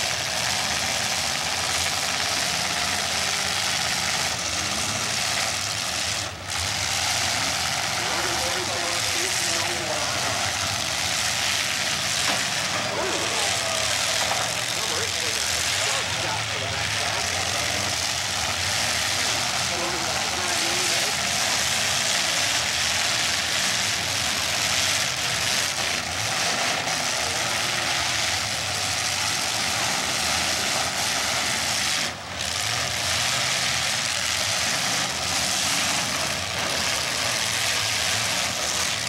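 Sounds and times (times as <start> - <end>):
car engines running: 0.0 - 39.0.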